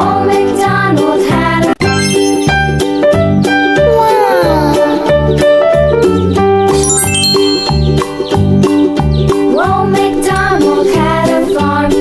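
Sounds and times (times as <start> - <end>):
upbeat keyboard music with beat: 0.0 - 12.0.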